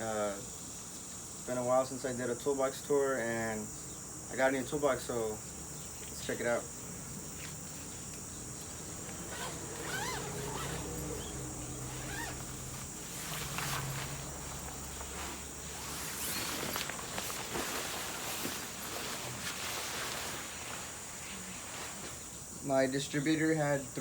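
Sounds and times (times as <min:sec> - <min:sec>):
insects chirping drone: 0:00.0 - 0:24.0.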